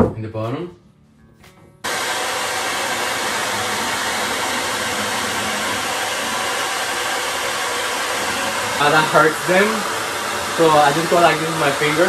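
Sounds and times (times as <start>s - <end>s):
hair dryer running: 1.8s - 12.0s.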